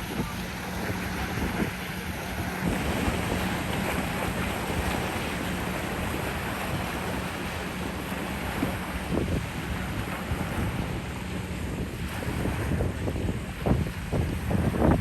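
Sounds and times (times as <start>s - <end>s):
boat motor hum: 0.0s - 15.0s
water noise: 0.0s - 15.0s
wind on microphone: 0.0s - 15.0s.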